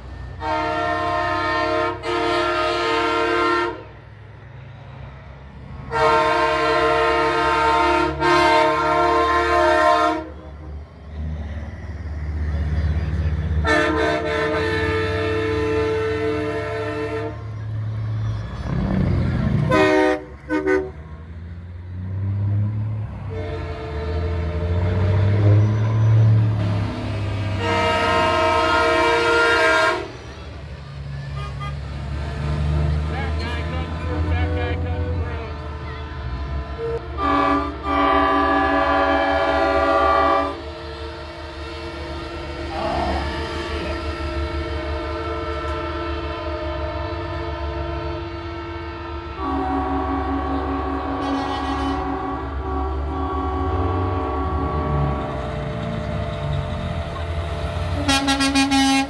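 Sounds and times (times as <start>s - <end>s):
diesel engine rumble: 0.0s - 59.0s
truck air horns blowing: 0.1s - 4.0s, 5.8s - 10.8s, 13.5s - 17.8s, 18.6s - 59.0s.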